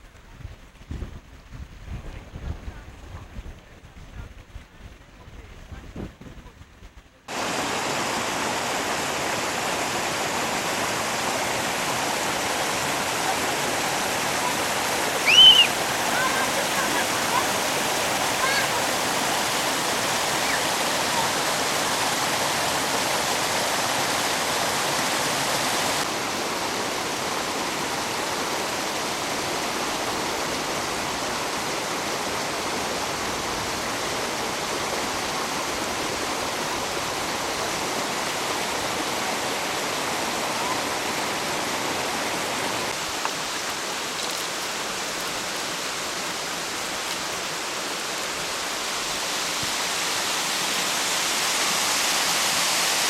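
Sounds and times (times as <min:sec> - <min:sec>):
stream water rushing: 0:07.3 - 0:53.0.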